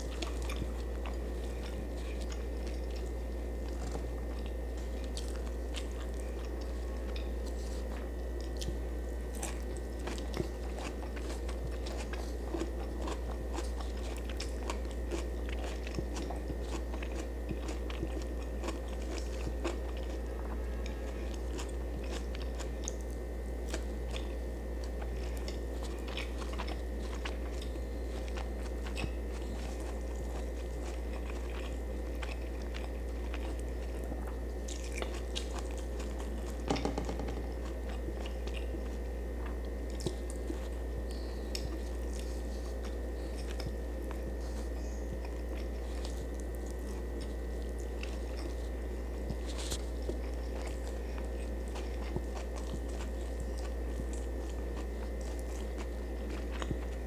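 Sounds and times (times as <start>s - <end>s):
low electrical hum: 0.0s - 57.0s
person chewing and crunching: 0.0s - 57.0s.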